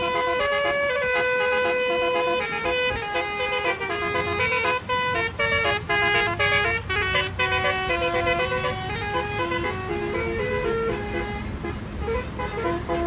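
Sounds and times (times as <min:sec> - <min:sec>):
musical horn playing toots: 0:00.0 - 0:13.0.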